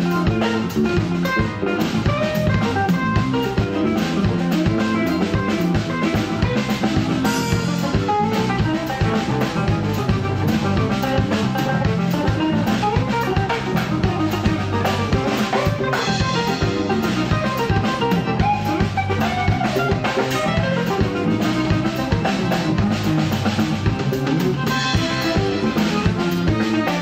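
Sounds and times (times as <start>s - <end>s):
accordion: 0.0s - 27.0s
drum kit beat: 0.0s - 27.0s
electric bass: 0.0s - 27.0s
electric guitar: 0.0s - 27.0s.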